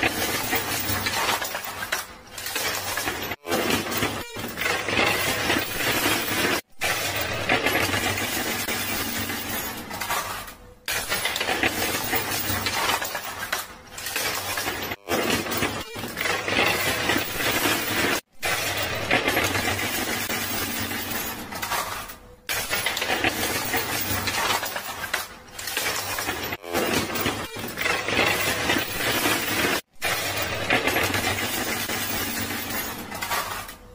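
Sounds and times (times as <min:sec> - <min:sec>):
coins and chips clattering: 0:00.0 - 0:33.9.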